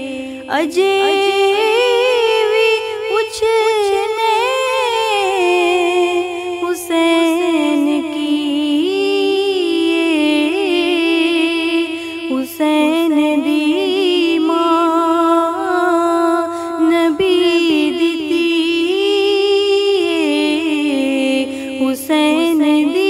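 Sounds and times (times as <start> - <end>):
woman singing unaccompanied: 0.0 - 23.0.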